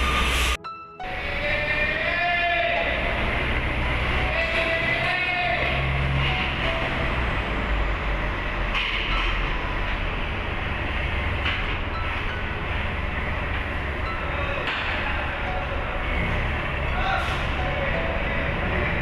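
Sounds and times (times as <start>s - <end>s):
heavy engine rumble: 0.0s - 19.0s.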